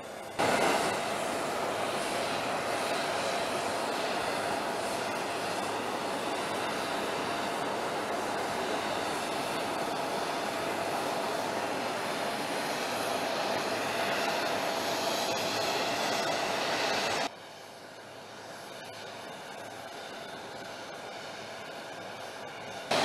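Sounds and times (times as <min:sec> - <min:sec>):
jet aircraft engine noise: 0:00.0 - 0:23.0.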